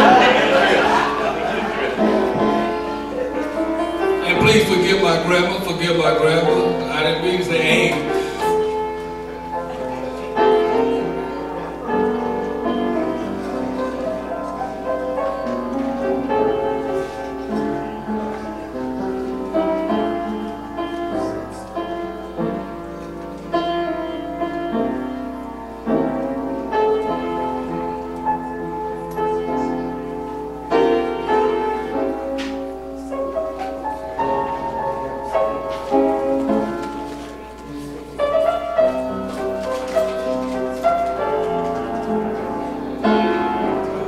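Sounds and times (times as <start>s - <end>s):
keyboard playing slow chords: 0.0s - 44.0s.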